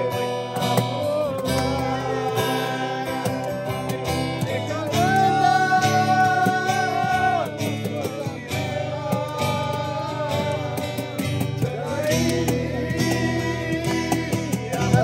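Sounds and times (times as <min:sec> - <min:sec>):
plucked acoustic guitar music: 0:00.0 - 0:15.0.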